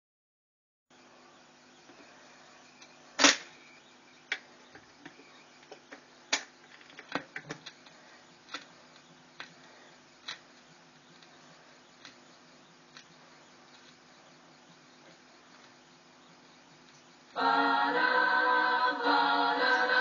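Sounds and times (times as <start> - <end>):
faint motor hum: 0.9 - 20.0.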